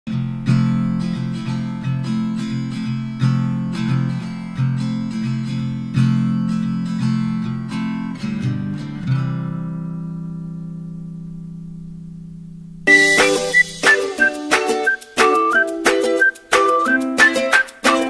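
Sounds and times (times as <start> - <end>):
strummed acoustic guitar: 0.1 - 11.8, 12.8 - 18.0.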